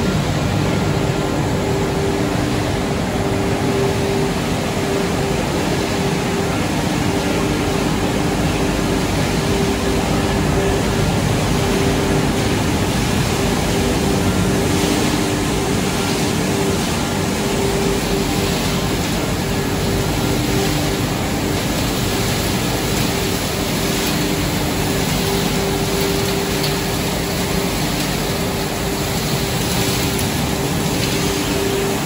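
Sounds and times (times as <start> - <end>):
machinery rushing noise: 0.0 - 32.0
steady machine hum: 0.0 - 32.0.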